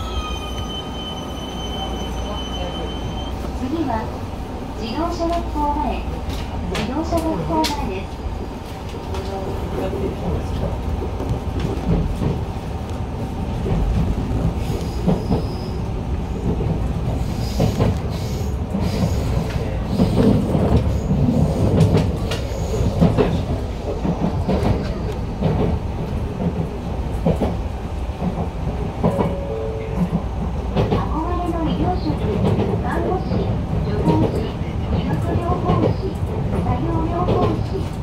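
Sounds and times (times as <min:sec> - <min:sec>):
rumble of train wheels on rail: 0:00.0 - 0:38.0.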